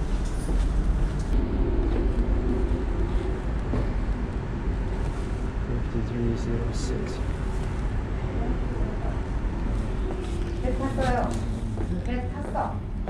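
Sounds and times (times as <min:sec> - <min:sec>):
ship engines rumbling: 0:00.0 - 0:13.0.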